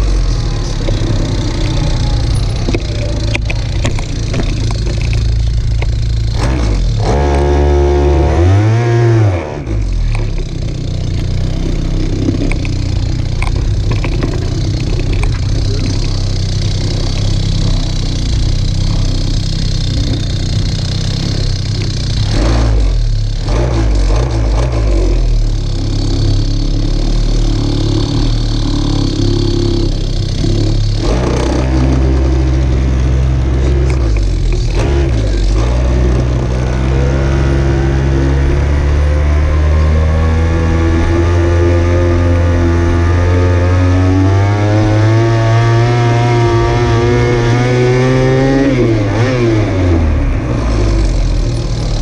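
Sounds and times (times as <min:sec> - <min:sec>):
motorbike engine revving and idling: 0:00.0 - 0:52.0.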